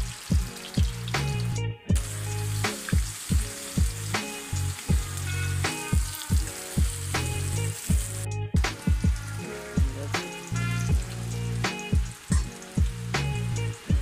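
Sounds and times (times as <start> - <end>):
background music with steady beat: 0.0 - 14.0
battered vegetables sizzling in oil: 0.0 - 14.0.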